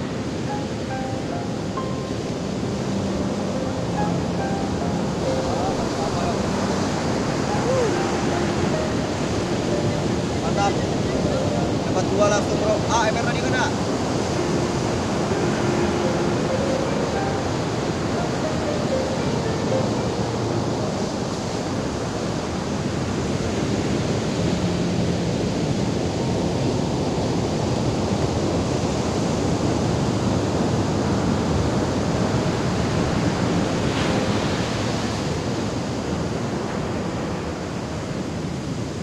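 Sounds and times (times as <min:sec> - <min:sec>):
ocean surf breaking on beach: 0:00.0 - 0:39.0.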